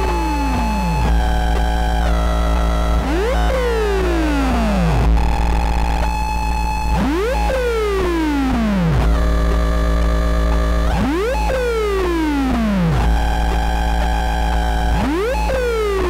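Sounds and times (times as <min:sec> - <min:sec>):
harsh synth drone: 0:00.0 - 0:16.0
tone gliding up and down: 0:00.0 - 0:16.0.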